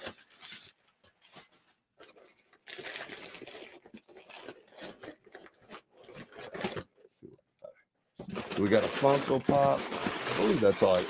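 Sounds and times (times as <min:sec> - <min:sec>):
packaging crinkling and rustling: 0:00.0 - 0:07.0, 0:08.3 - 0:11.0.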